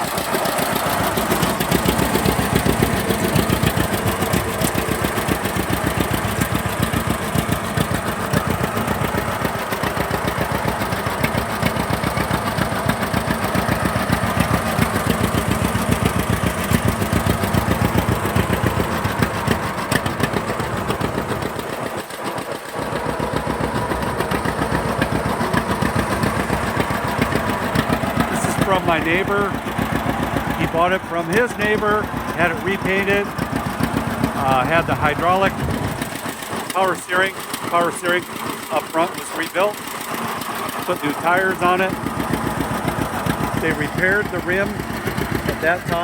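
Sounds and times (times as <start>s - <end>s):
tractor engine idling: 0.0s - 46.0s.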